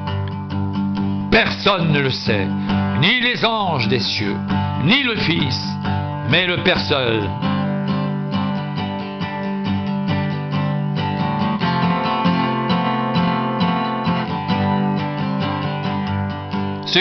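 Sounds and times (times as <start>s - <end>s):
acoustic guitar strummed and picked: 0.0s - 17.0s.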